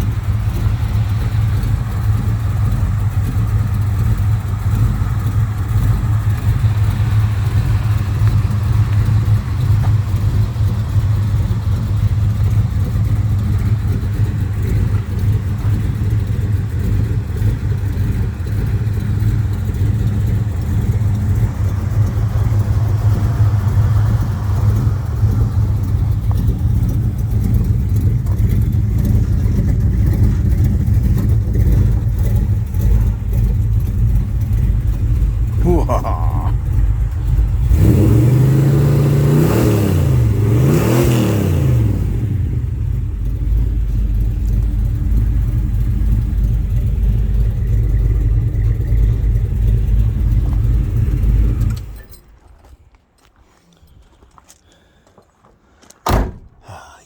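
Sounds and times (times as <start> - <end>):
car engine idling: 0.0 - 52.8.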